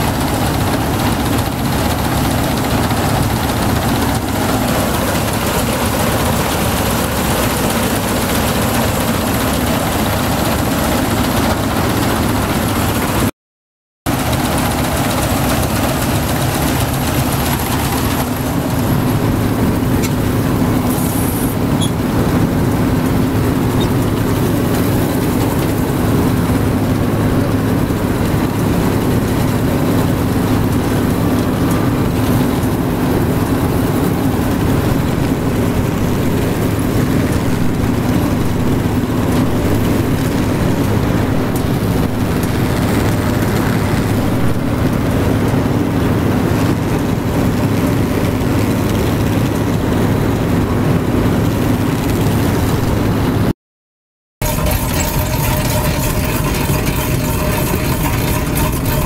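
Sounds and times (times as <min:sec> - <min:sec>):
combine harvester droning: 0:00.0 - 0:13.3, 0:14.1 - 0:53.5, 0:54.4 - 0:59.0.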